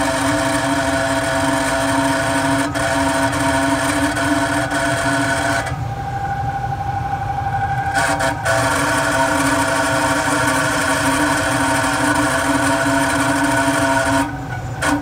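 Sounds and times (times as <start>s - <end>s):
blower motor grinding: 0.0s - 15.0s
blower motor hum and whine: 0.0s - 15.0s.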